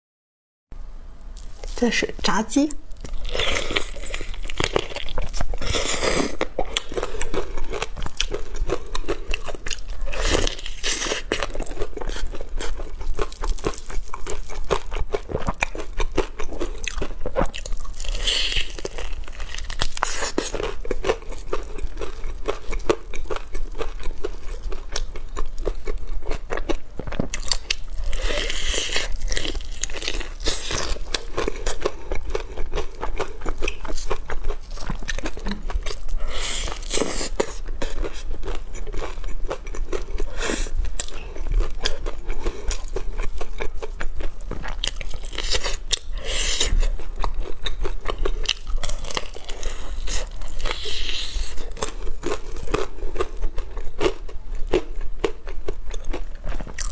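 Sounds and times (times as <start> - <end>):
crunchy chewing of fried chicken: 2.9 - 56.9.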